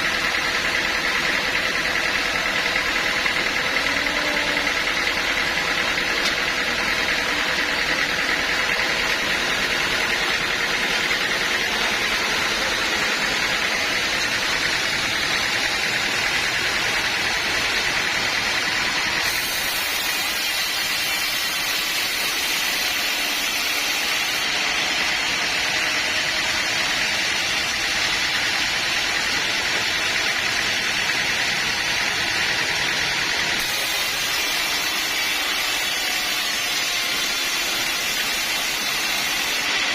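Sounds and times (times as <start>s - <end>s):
sawmill saw and engine running: 0.0s - 39.9s.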